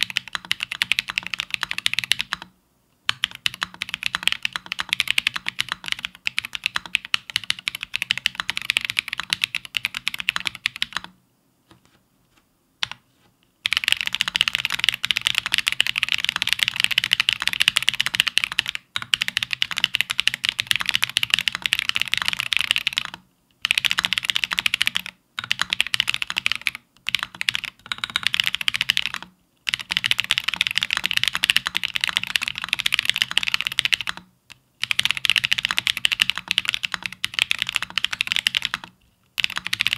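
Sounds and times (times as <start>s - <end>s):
mechanical keyboard typing: 0.0s - 2.5s, 3.1s - 11.2s, 12.8s - 13.0s, 13.6s - 39.9s.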